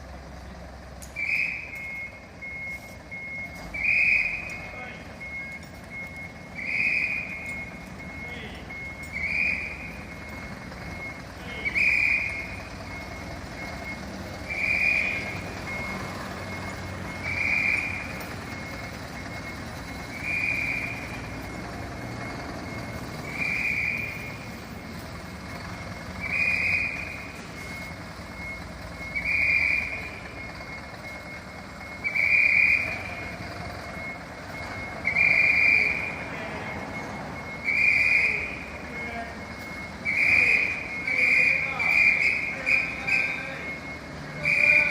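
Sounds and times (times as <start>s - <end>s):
high-pitched warning beeps: 0.2s - 44.9s.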